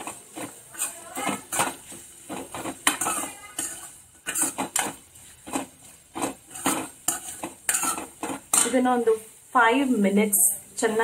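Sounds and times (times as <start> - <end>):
spatula scraping a metal pan: 0.0 - 8.8
onions frying in oil: 0.0 - 11.0.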